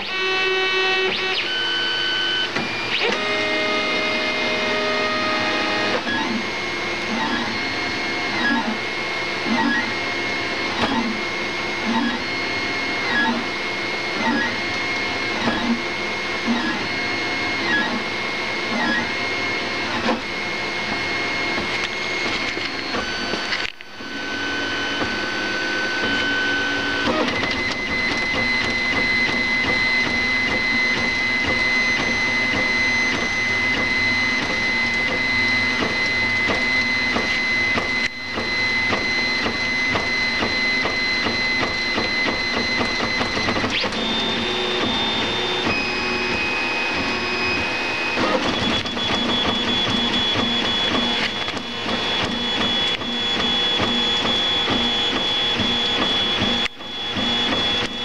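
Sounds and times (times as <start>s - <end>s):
printer stepper motors whining: 0.0s - 58.0s.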